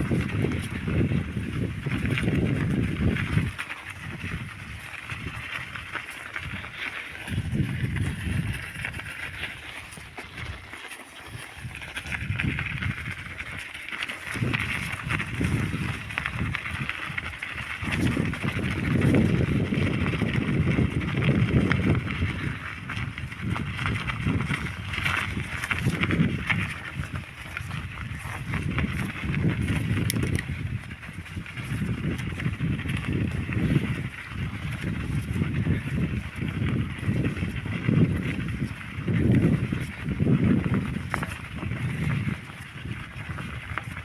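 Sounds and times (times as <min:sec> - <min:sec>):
bicycle tyres rolling on trail: 0:00.0 - 0:44.0.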